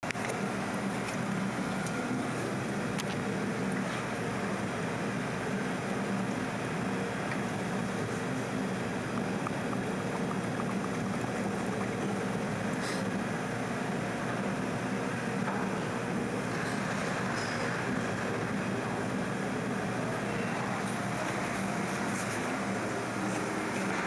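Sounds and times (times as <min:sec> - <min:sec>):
low hum and hiss: 0:00.0 - 0:24.0.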